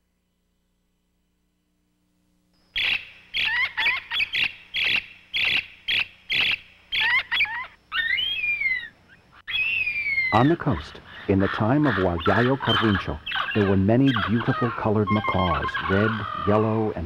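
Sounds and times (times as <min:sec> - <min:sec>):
bird short calls: 0:02.8 - 0:17.0.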